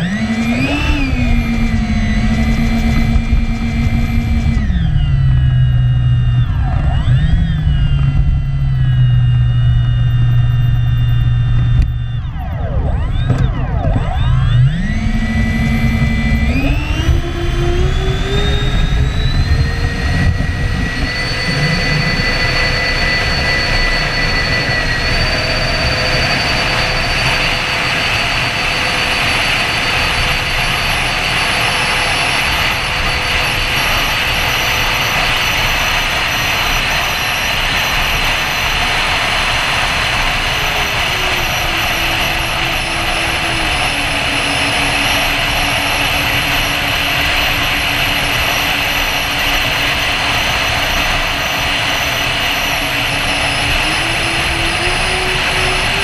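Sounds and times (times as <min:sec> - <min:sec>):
electric ducted fans whining: 0:00.0 - 0:56.0.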